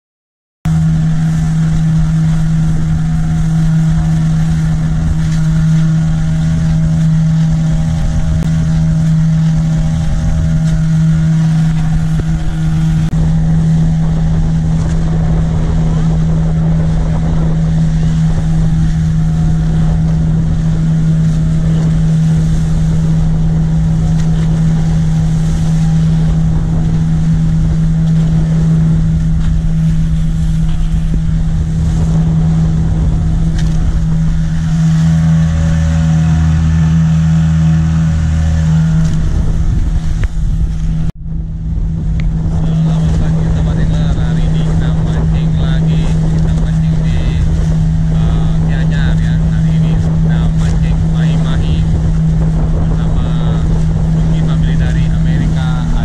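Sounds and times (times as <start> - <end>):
boat engine running: 0.6 - 56.0
wind: 0.6 - 56.0
rushing water: 0.7 - 56.0.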